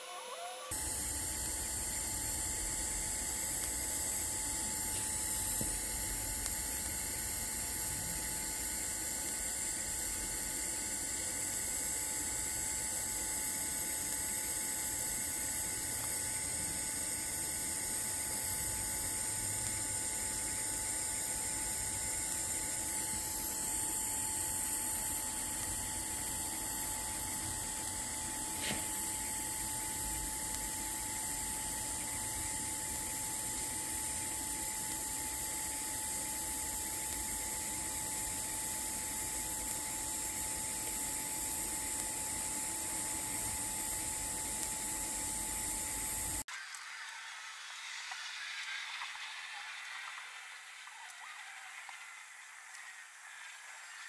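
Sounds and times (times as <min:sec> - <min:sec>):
welding arc: 0:00.1 - 0:50.7.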